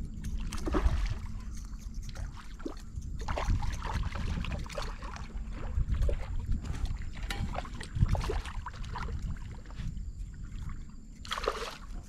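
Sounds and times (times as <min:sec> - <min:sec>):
wind rumble on microphone: 0:00.0 - 0:12.0
shallow water splashing: 0:00.2 - 0:12.0.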